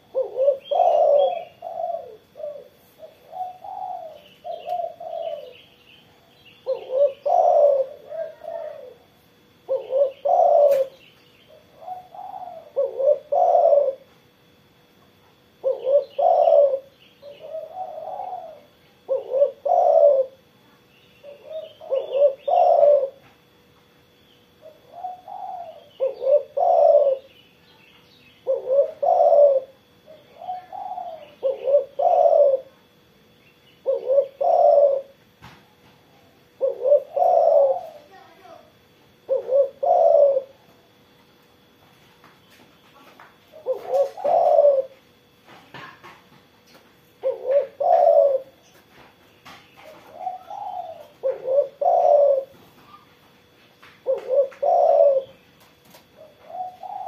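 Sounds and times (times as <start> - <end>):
dove cooing: 0.0 - 41.8, 43.1 - 57.0.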